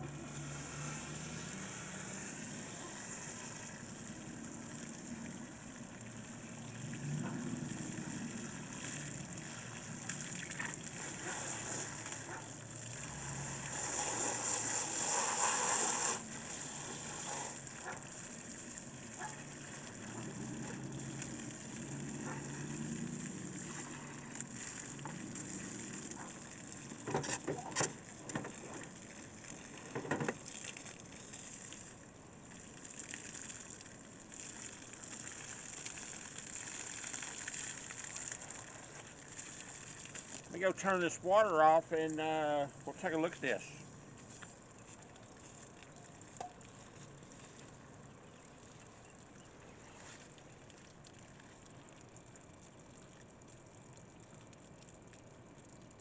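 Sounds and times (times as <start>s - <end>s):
hose spraying water: 0.0s - 32.1s, 32.7s - 45.8s.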